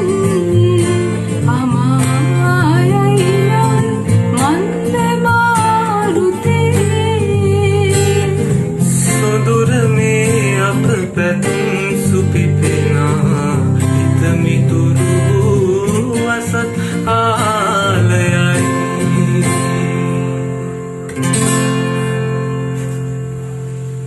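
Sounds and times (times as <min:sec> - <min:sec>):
person singing: 0:00.0 - 0:20.4
acoustic guitar: 0:00.0 - 0:24.0.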